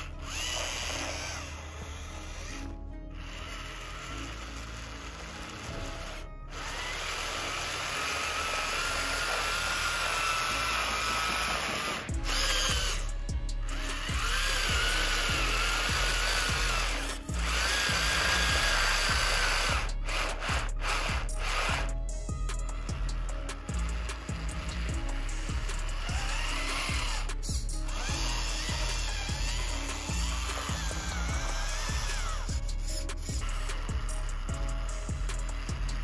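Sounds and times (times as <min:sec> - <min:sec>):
background music: 0:00.0 - 0:36.0
electric motor and gearbox whining: 0:00.0 - 0:36.0.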